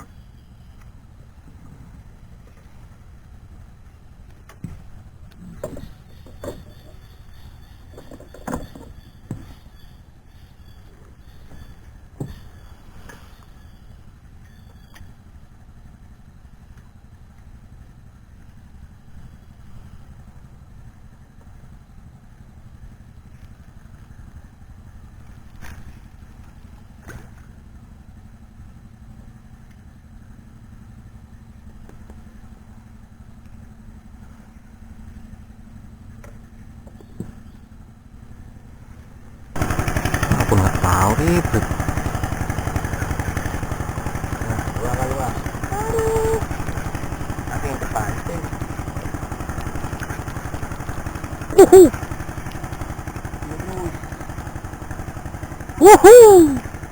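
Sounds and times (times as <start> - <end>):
boat motor rumbling: 0.0 - 14.7, 22.4 - 56.9.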